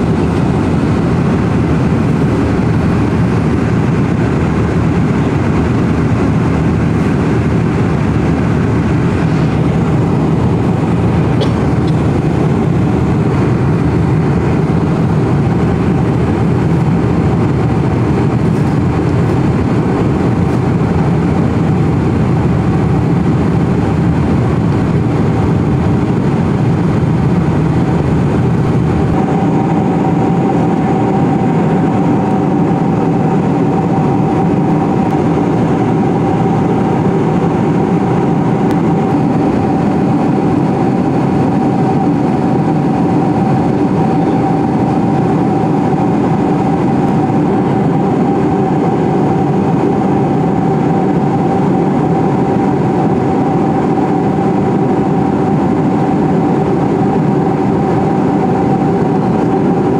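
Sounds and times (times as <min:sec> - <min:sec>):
jet engines droning: 0:00.0 - 0:59.9
rushing air: 0:00.0 - 0:59.9
steady whine: 0:00.0 - 0:59.9.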